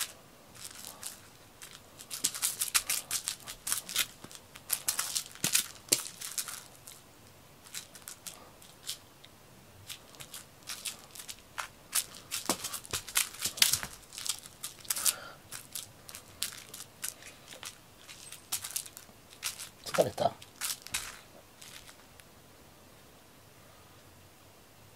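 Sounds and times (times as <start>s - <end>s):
rustling and crinkling: 0.0s - 22.3s.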